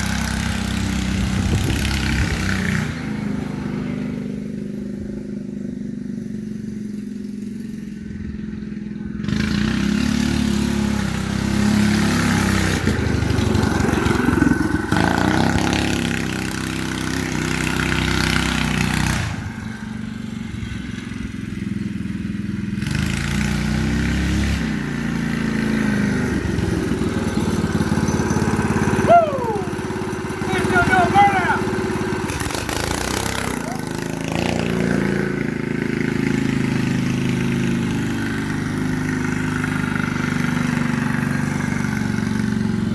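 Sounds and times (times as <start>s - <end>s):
go-kart engine revving: 0.0s - 42.9s.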